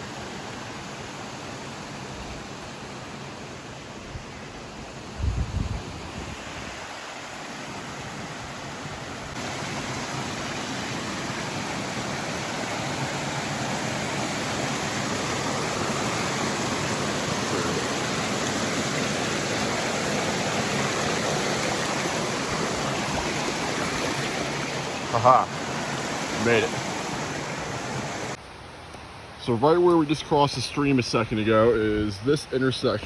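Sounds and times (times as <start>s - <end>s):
stream rushing over rapids: 0.0s - 31.8s.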